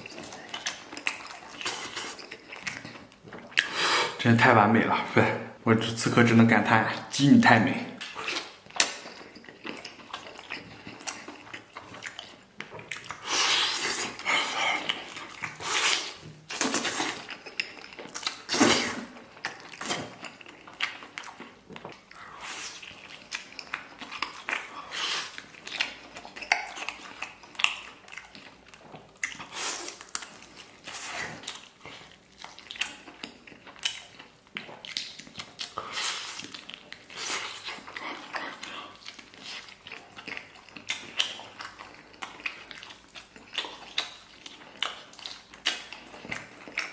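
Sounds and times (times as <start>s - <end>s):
man chewing and slurping: 0.0s - 4.2s, 8.0s - 46.9s.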